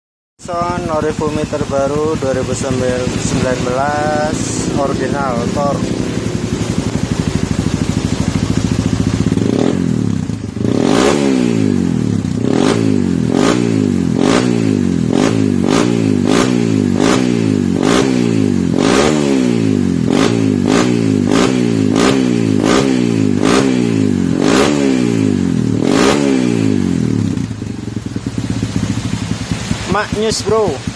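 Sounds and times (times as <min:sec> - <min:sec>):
motorcycle engine revving: 0:00.4 - 0:30.9.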